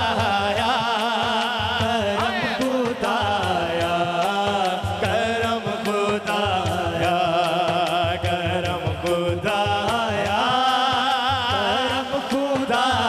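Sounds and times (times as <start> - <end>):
dholak drum beat: 0.0 - 13.0.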